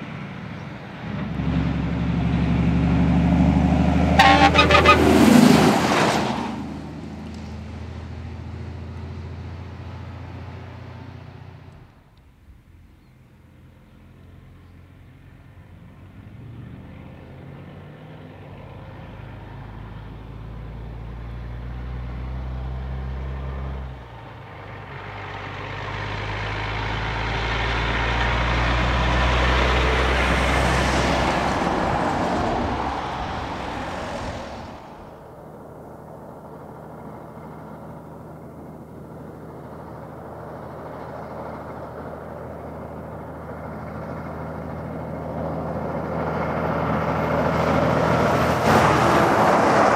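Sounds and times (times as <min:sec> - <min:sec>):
truck engine shifting gears: 0:00.0 - 0:12.0, 0:13.8 - 0:49.9
truck passing: 0:00.0 - 0:49.9.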